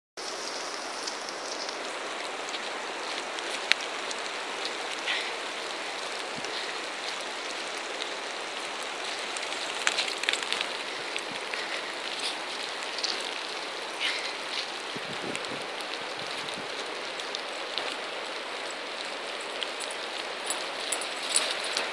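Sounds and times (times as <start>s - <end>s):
footsteps in wet leaves: 0.2s - 21.9s
rain falling hiss: 0.2s - 21.9s.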